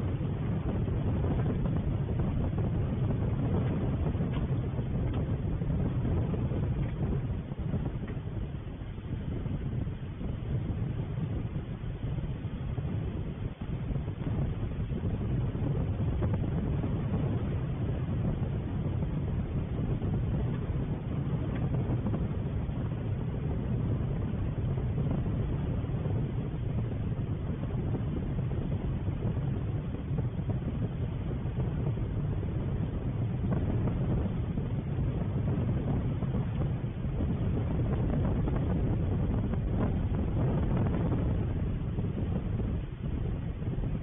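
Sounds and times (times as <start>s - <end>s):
low rumbling outdoor noise: 0.0s - 44.0s.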